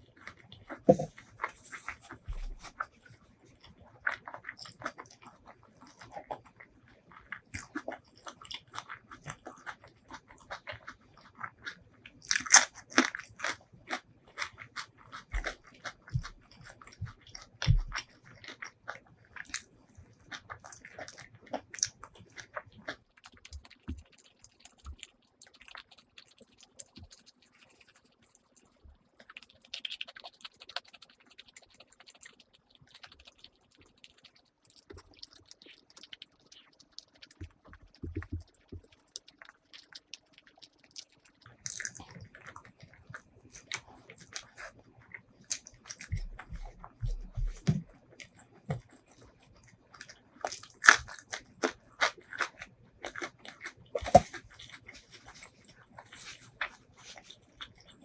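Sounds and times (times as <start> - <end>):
fingers squishing rice: 0.0 - 58.0
mouth chewing and smacking: 0.0 - 58.0.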